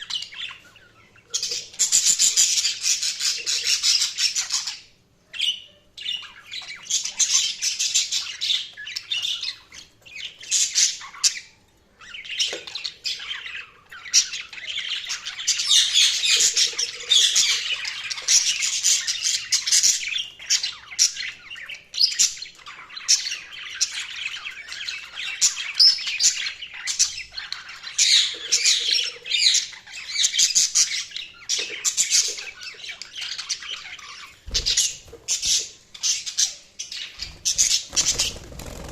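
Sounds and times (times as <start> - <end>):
budgies chirping and warbling: 0.0 - 38.9.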